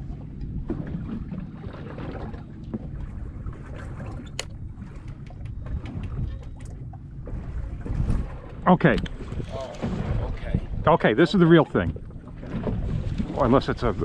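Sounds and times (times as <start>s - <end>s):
water lapping at boat hull: 0.0s - 14.0s
wind buffeting microphone: 0.0s - 14.0s.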